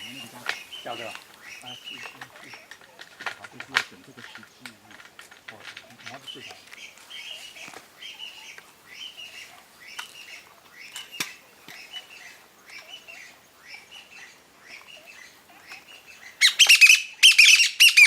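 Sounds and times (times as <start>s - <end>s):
harsh bird chattering: 0.0s - 3.0s, 5.8s - 18.0s.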